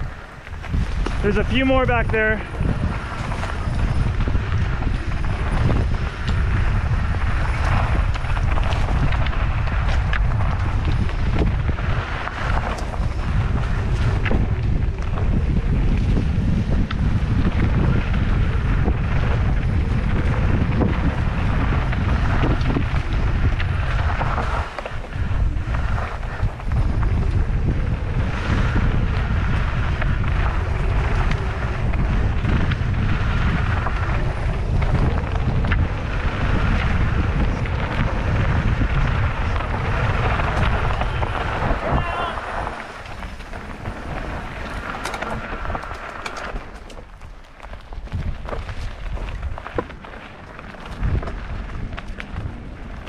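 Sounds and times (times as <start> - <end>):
bike tyres on dirt: 0.0 - 53.0
wind rushing over microphone: 0.0 - 53.0.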